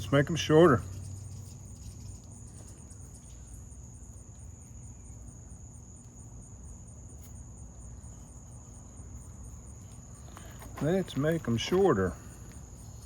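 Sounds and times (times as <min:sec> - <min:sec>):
insect continuous high trill: 0:00.0 - 0:13.0
pulsing insect chirp: 0:00.0 - 0:13.0.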